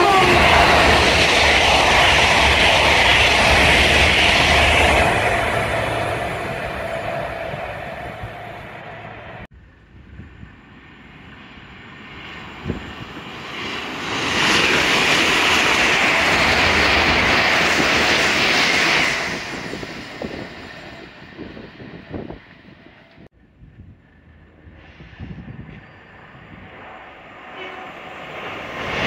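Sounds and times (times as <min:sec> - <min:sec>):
train rushing past: 0:00.0 - 0:09.5, 0:10.6 - 0:23.3, 0:24.1 - 0:29.0
train rumble: 0:00.0 - 0:13.0, 0:13.9 - 0:29.0.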